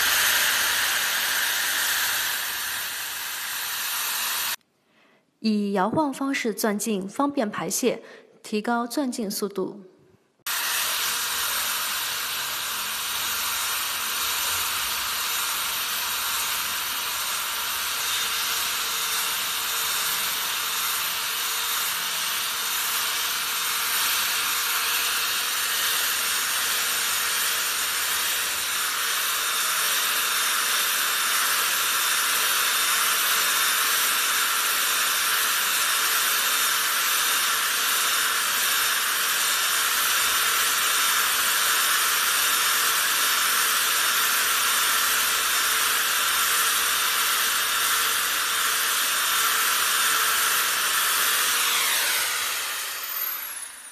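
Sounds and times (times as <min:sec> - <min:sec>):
electric drill grinding into tile: 0:00.0 - 0:04.6, 0:10.4 - 0:53.9.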